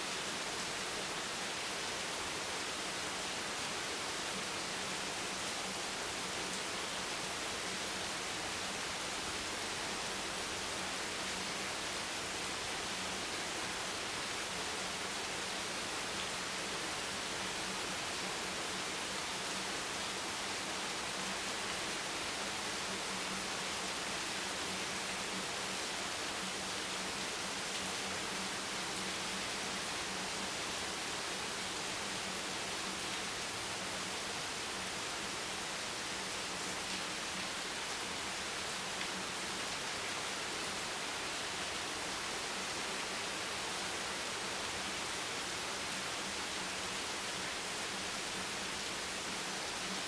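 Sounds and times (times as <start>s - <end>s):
steady rain: 0.0s - 50.0s.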